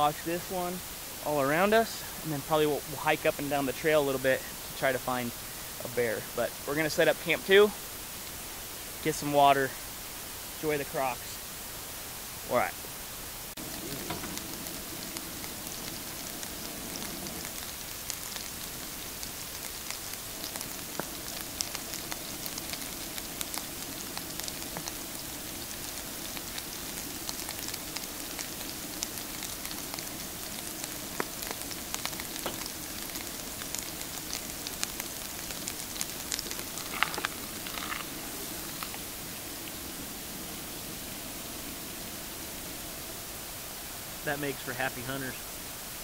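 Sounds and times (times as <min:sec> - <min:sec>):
oil sizzling in a frying pan: 0:00.0 - 0:44.3.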